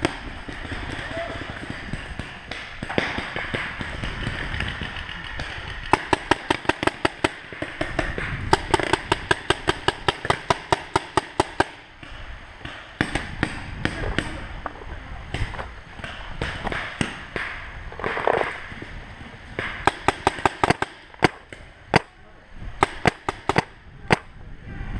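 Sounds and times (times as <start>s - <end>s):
paintball marker firing: 0.0s - 14.4s, 15.4s - 18.6s, 19.6s - 22.2s, 22.8s - 24.4s.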